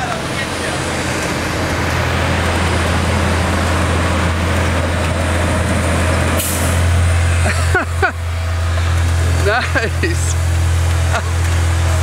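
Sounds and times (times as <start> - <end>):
broad rushing noise: 0.0 - 12.0
diesel engine humming: 0.0 - 12.0.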